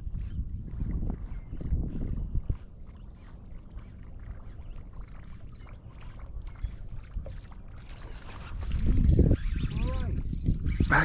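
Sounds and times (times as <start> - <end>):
waves lapping against boat hull: 0.0 - 11.0
faint splashes: 0.1 - 10.4.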